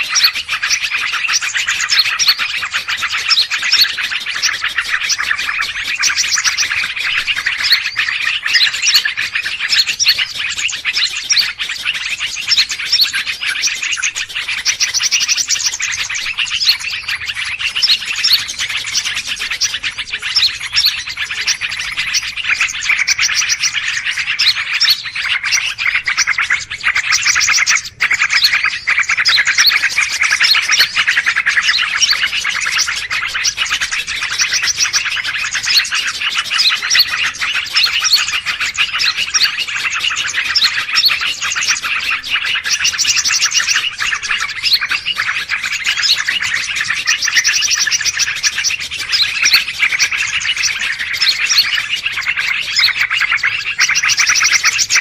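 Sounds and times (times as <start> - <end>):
small birds chirping and twittering: 0.0 - 55.0.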